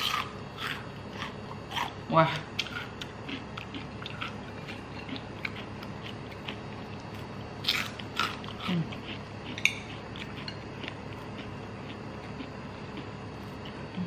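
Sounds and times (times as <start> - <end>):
chewing crispy chicken skin: 2.6 - 14.0.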